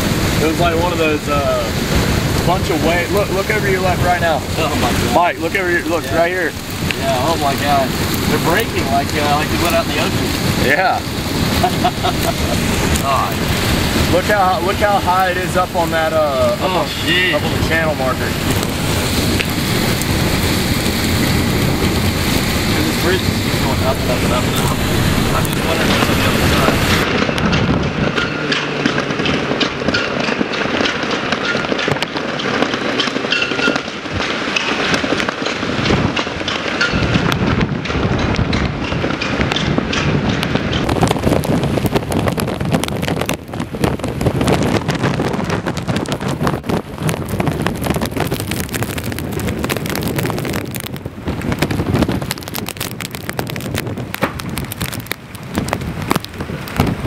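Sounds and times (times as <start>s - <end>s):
dense crackling: 0.0s - 57.0s
low rumbling: 0.0s - 57.0s
rain: 0.0s - 57.0s
wind blowing across microphone: 0.0s - 57.0s.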